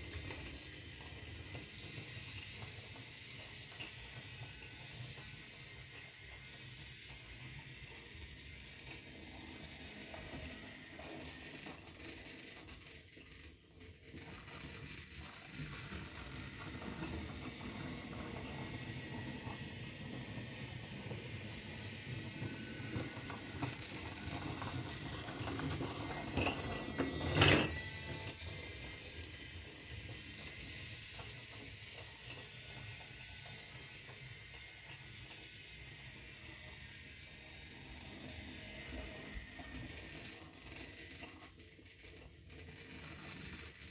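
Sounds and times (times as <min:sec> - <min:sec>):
toy train motor and gears: 0:00.0 - 0:43.9.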